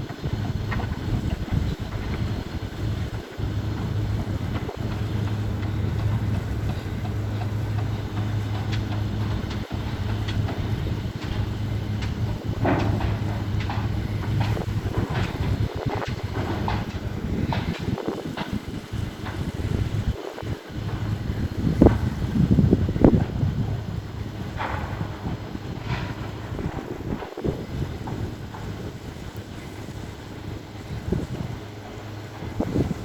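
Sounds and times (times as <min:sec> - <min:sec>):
boat engine humming: 0:00.0 - 0:33.0
wind buffeting microphone: 0:00.0 - 0:33.0.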